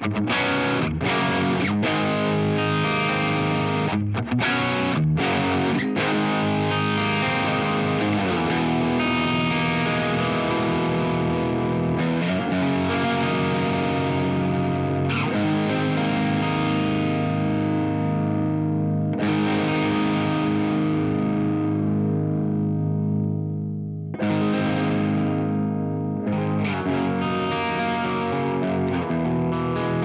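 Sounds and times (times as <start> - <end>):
overdriven electric guitar chords: 0.0 - 30.0
picked guitar notes: 0.0 - 30.0.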